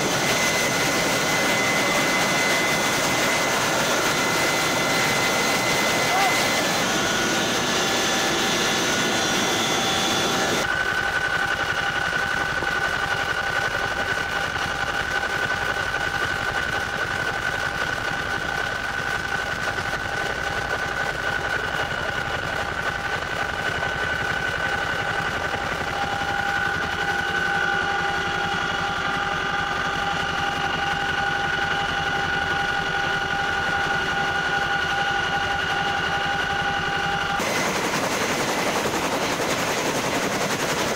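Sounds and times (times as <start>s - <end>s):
helicopter running: 0.0s - 40.9s.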